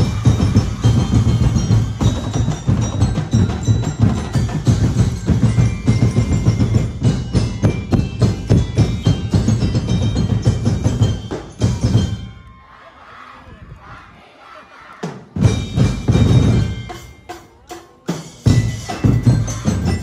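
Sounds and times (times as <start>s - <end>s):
fast drum strikes: 0.0s - 12.2s, 15.1s - 20.0s
ringing bell-like tones: 0.0s - 13.8s, 15.4s - 20.0s.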